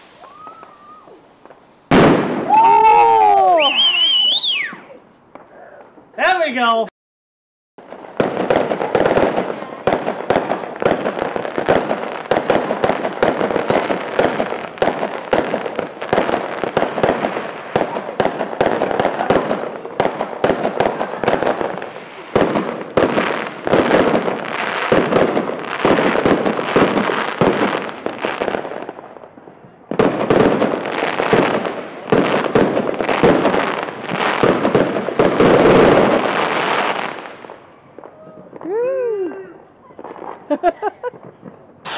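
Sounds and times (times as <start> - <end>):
fireworks cracking and banging: 0.0 - 6.8, 7.8 - 41.9.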